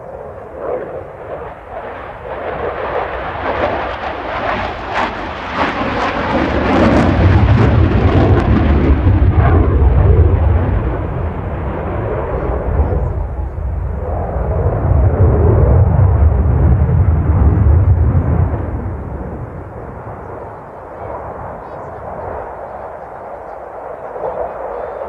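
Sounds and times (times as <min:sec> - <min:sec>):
jet engine rumble with crackles: 0:00.0 - 0:25.0.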